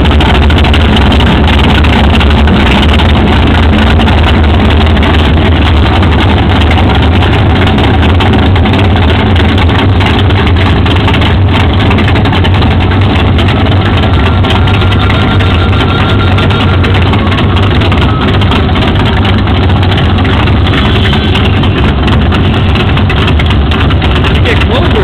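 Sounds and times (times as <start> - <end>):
car engines idling: 0.0 - 25.0.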